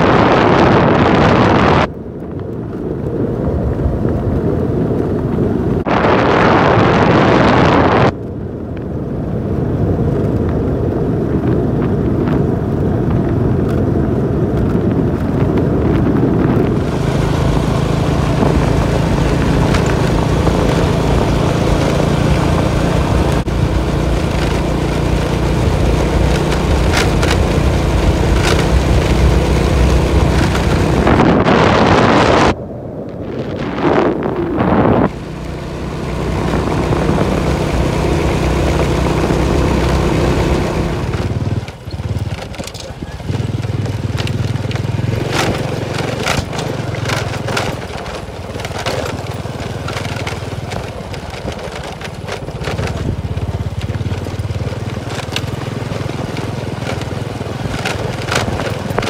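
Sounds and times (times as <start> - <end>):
motorbike engine running: 0.0 - 32.6, 33.3 - 59.0
wind buffeting microphone: 0.0 - 59.0.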